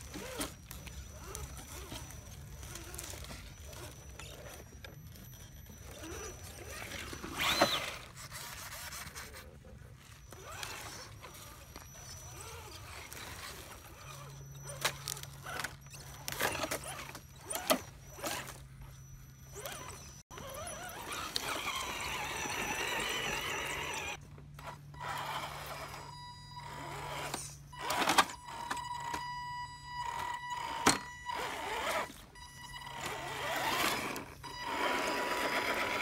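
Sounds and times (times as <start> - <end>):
tires crackling over twigs and leaves: 0.0 - 30.8
toy car electric motor whining: 0.0 - 36.0.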